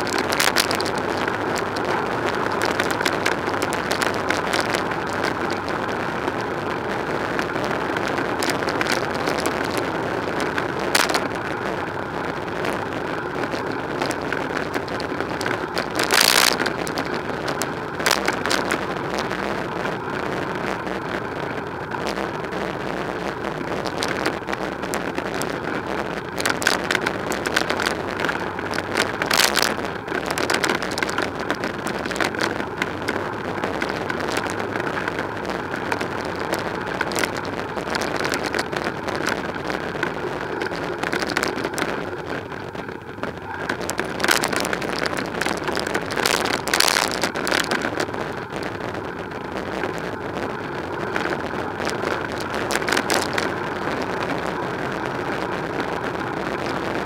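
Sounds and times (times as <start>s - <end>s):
bicycle tyres on road: 0.0s - 57.0s.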